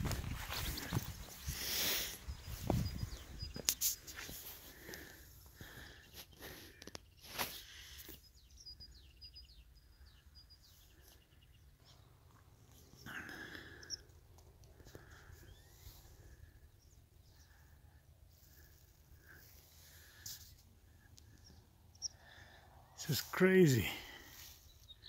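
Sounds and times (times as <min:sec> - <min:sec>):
faint birdsong: 0:00.0 - 0:25.0.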